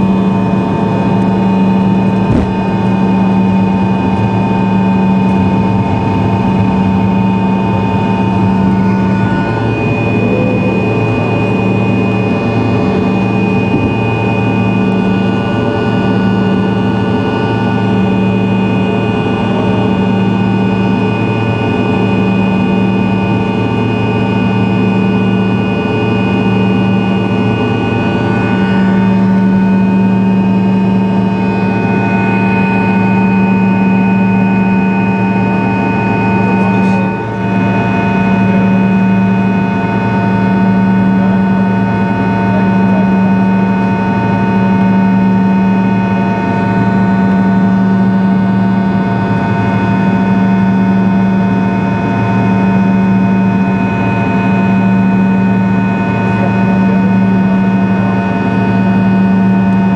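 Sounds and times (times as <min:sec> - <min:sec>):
jet engine hum and whine: 0:00.0 - 0:59.9.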